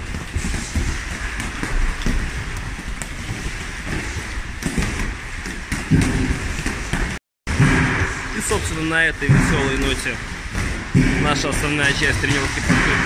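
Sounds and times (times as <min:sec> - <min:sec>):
gloves hitting punching bags: 0:00.0 - 0:13.0.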